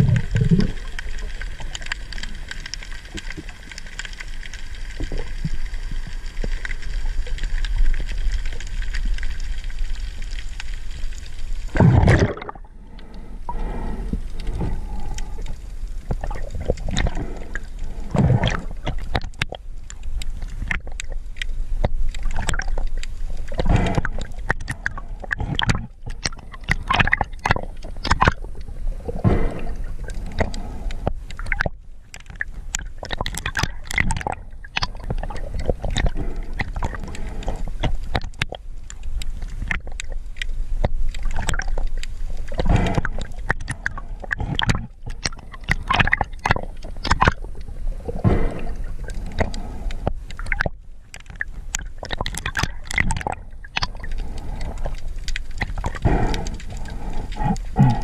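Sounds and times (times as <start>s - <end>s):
water gurgling and sloshing: 0.0s - 58.0s.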